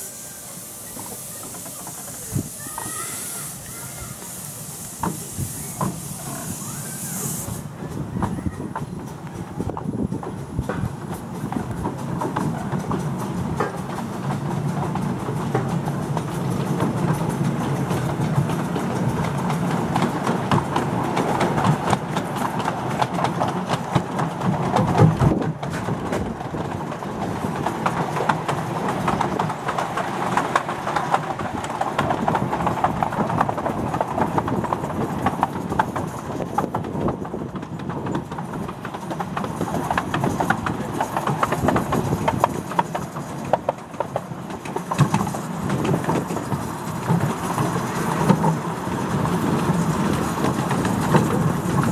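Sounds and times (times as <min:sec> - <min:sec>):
train carriages rumbling on track: 0:00.0 - 0:51.9.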